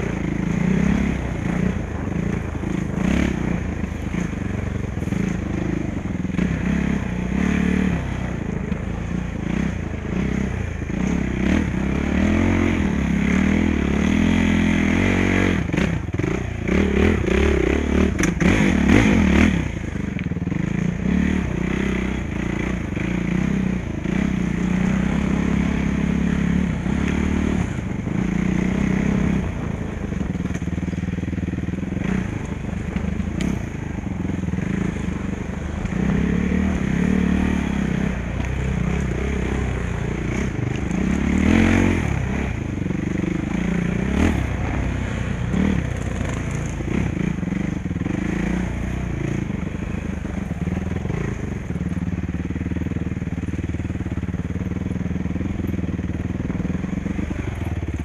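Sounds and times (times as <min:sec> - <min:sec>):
bike rattling over rough ground: 0:00.0 - 0:58.0
dirt bike engine revving: 0:00.0 - 0:58.0.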